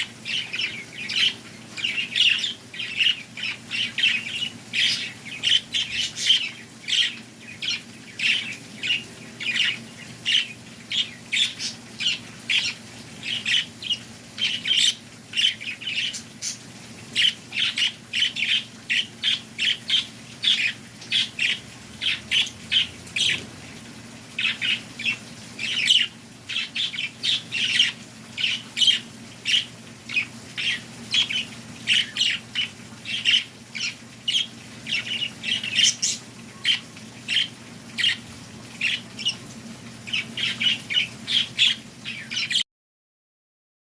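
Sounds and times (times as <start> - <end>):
birds chirping and squawking: 0.0 - 42.6.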